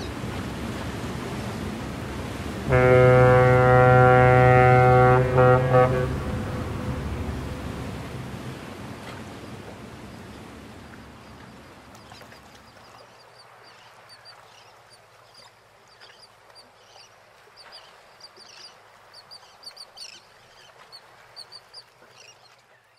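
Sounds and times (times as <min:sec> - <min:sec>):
waves washing: 0:00.0 - 0:22.9.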